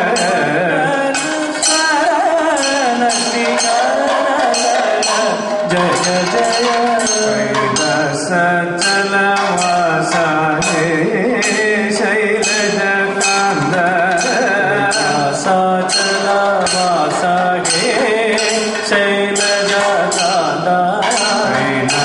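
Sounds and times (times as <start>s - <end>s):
person chanting melodic line: 0.0s - 22.0s
small hand cymbals: 0.0s - 22.0s.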